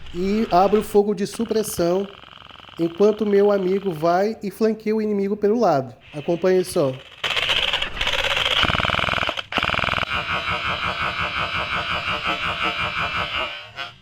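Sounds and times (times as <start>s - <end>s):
airsoft gun full-auto bursts: 0.2s - 4.4s, 6.1s - 13.6s.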